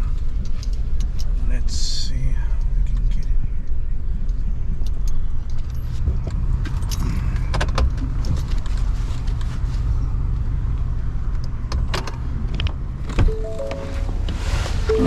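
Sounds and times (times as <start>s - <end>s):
truck engine and tyre rumble: 0.0s - 15.0s.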